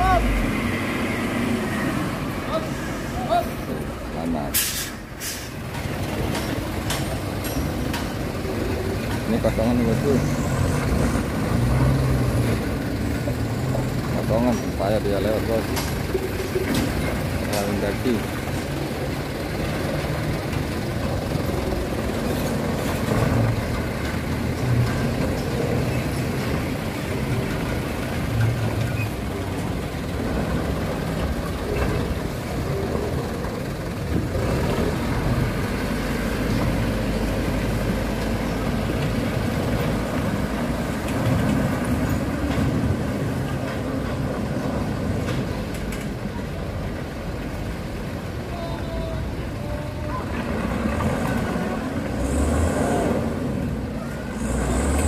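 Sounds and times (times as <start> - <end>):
diesel truck engines running: 0.0 - 55.0.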